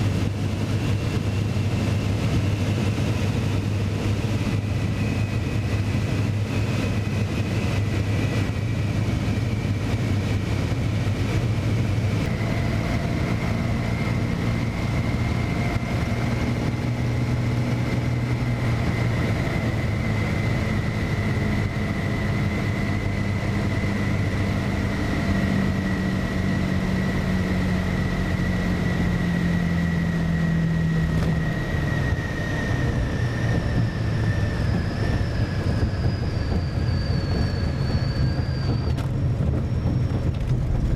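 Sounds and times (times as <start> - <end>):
aircraft piston engine droning: 0.0 - 40.9.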